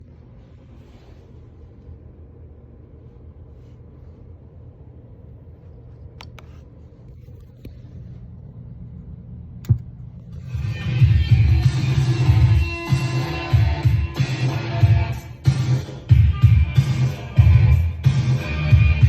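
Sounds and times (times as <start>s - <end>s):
electrical hum and hiss: 0.0s - 19.0s.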